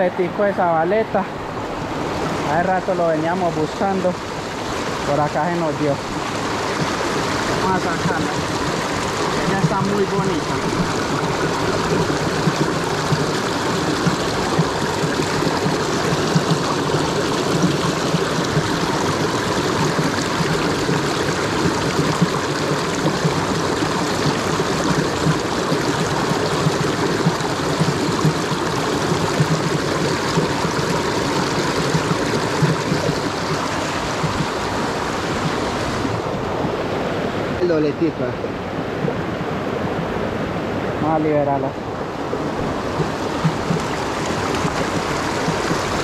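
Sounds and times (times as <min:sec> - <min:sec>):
creek water flowing: 0:00.0 - 0:46.0.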